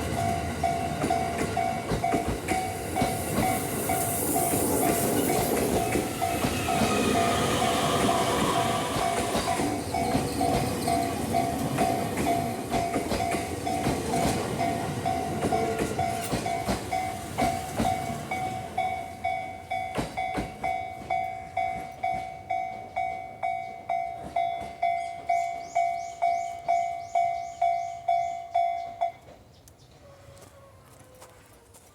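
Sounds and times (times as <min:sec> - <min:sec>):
level-crossing alarm dinging: 0:00.0 - 0:29.3
train rumble and rail clatter: 0:00.0 - 0:30.7.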